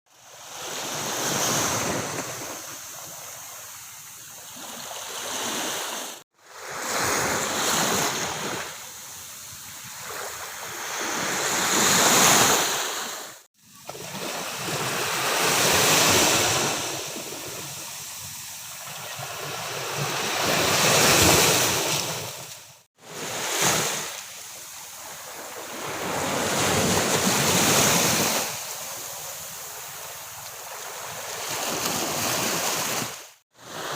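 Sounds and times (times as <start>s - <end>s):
sea waves breaking on a beach: 0.1s - 33.9s.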